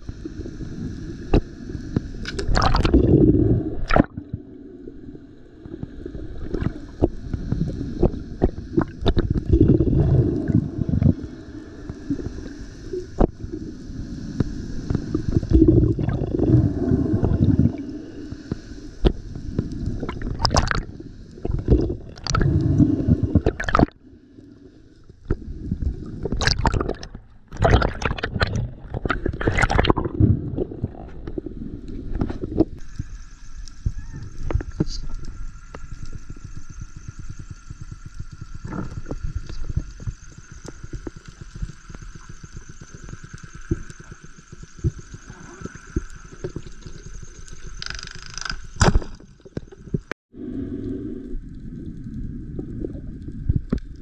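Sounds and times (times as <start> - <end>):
water gurgling and sloshing: 0.0 - 54.0.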